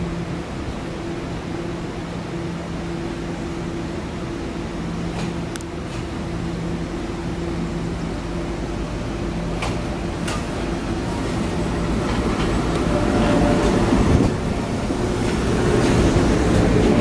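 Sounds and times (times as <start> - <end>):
wheel and rail rumble: 0.0 - 17.0
train motor hum: 3.1 - 17.0.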